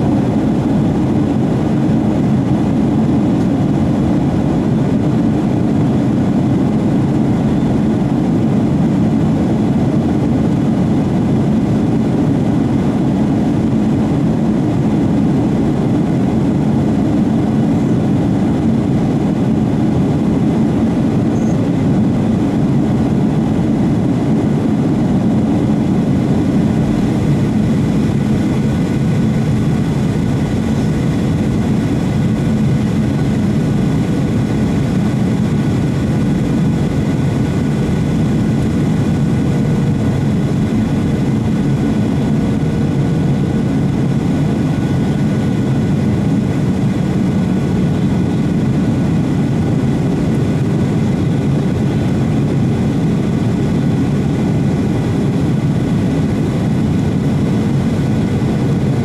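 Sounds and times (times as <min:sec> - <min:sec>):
jet engine cabin drone: 0:00.0 - 0:59.0.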